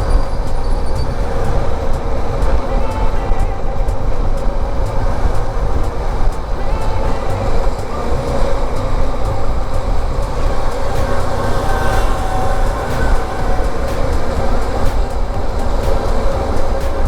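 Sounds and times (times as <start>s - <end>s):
vehicle engine rumble: 0.0s - 17.0s
wind on microphone: 0.0s - 17.0s.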